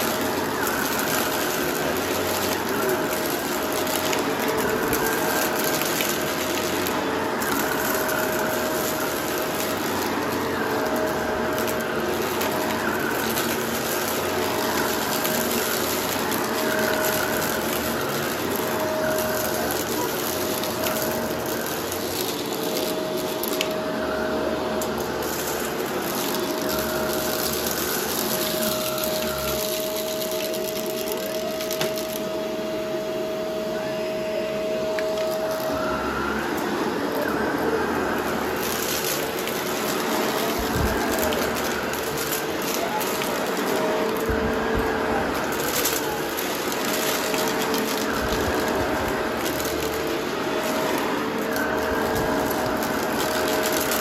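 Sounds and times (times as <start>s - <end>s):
debris clicks and crackles: 0.0s - 23.8s, 24.8s - 32.3s, 38.2s - 54.0s
vacuum cleaner whine: 0.0s - 54.0s.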